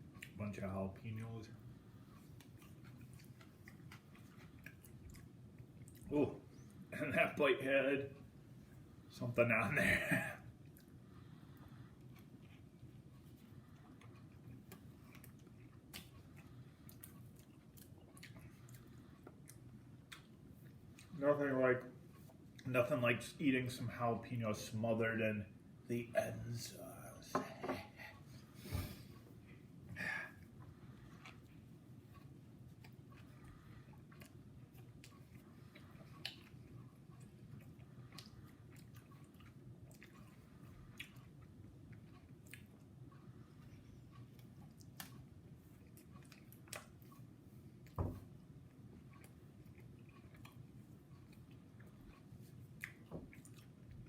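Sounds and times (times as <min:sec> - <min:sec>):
person chewing food: 0:00.0 - 0:00.4, 0:01.6 - 0:07.0, 0:10.4 - 0:21.2, 0:21.8 - 0:22.7, 0:27.9 - 0:54.0
low room hum: 0:00.0 - 0:54.0.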